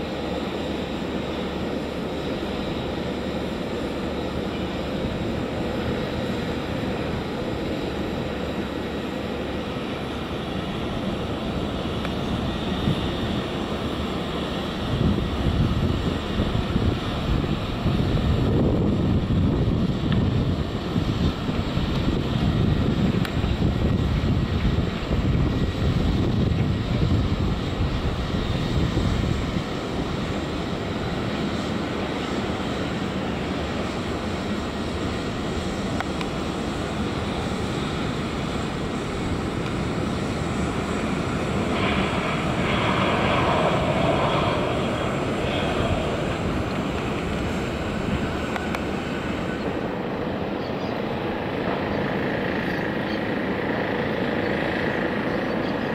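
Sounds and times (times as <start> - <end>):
jet aircraft rumble overhead: 0.0 - 55.9.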